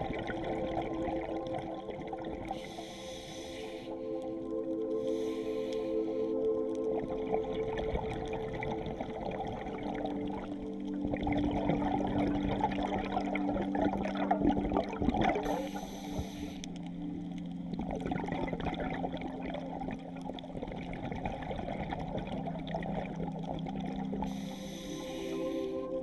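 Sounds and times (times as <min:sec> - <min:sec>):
hiss of bubbles: 0:00.0 - 0:04.1, 0:04.9 - 0:10.5, 0:11.1 - 0:16.8, 0:17.8 - 0:26.0
underwater gurgling water: 0:00.0 - 0:26.0.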